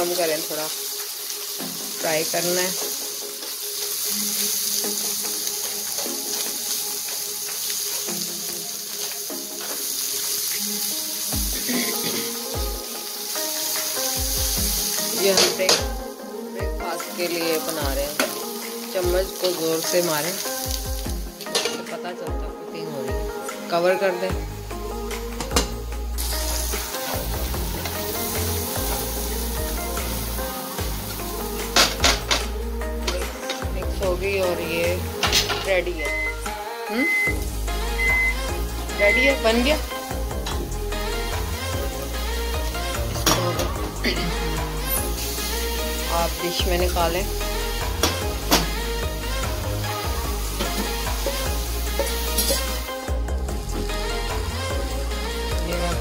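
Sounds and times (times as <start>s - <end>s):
food sizzling in a frying pan: 0.0s - 56.0s
light background music: 0.0s - 56.0s.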